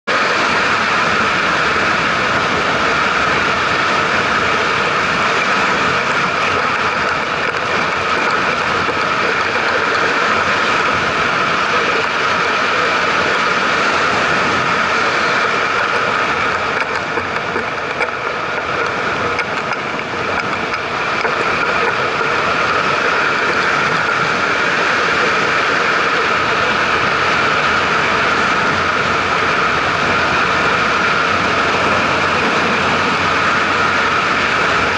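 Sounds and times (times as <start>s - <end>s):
road noise from moving vehicle: 0.0s - 34.9s
rushing wind: 0.0s - 34.9s.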